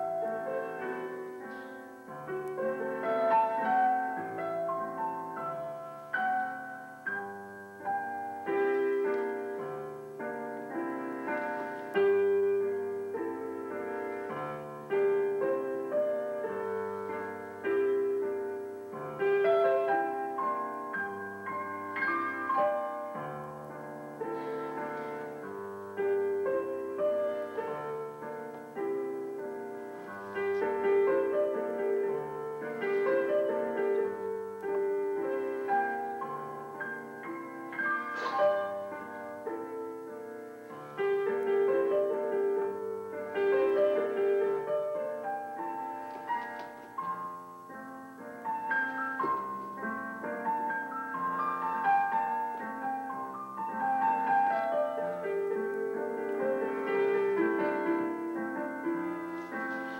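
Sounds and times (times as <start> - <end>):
slow solo piano piece: 0.0 - 59.9.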